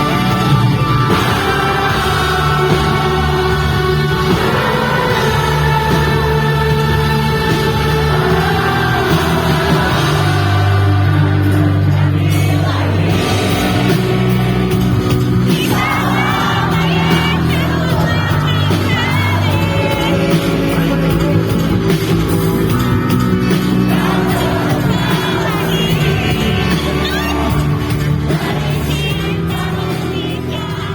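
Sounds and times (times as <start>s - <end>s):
bass line: 0.0s - 30.9s
live pop-rock band playing: 0.0s - 30.9s
person singing: 0.0s - 30.9s.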